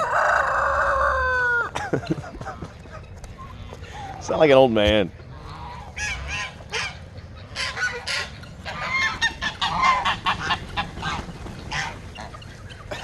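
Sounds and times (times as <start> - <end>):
geese honking: 2.4 - 13.0.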